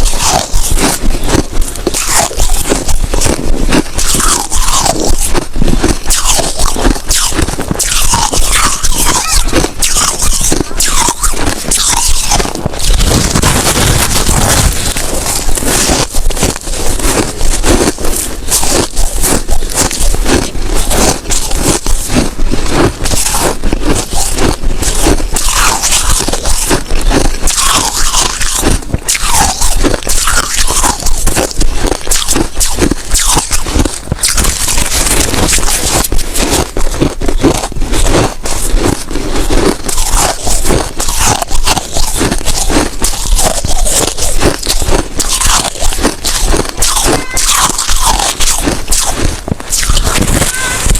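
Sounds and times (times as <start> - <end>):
chewing crunchy ice: 0.0 - 50.9.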